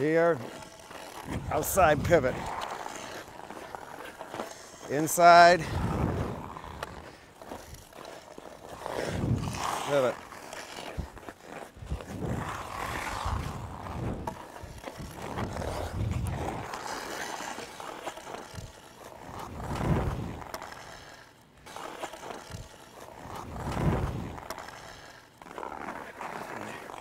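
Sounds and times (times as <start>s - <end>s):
skate blades scraping on ice: 0.0s - 27.0s.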